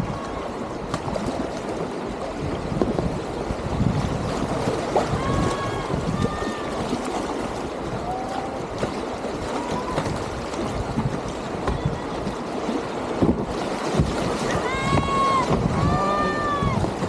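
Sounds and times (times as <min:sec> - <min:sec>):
paddle stroke splashes: 0:00.0 - 0:17.0
whitewater rapids rushing: 0:00.0 - 0:17.0.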